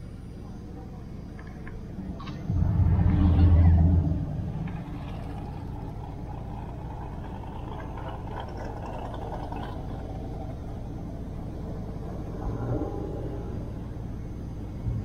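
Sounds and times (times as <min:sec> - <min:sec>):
car engine running: 0:01.0 - 0:15.0.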